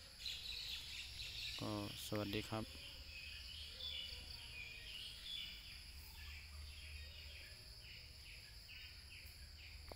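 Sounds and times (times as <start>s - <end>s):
insect chirps: 0.0s - 9.9s.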